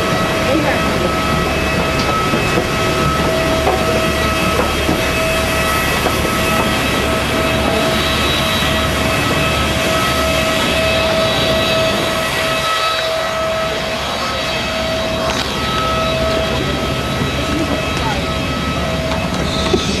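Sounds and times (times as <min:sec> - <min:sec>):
jet turbine whine: 0:00.0 - 0:20.0.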